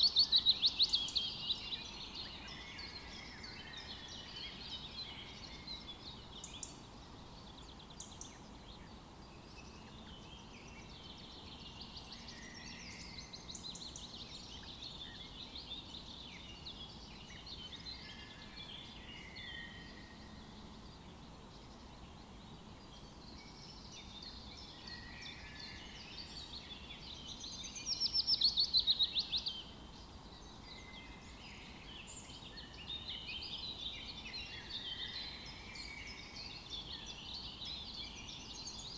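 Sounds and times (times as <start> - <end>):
faint background hiss: 0.0 - 38.9
small birds chirping and singing: 0.0 - 38.9.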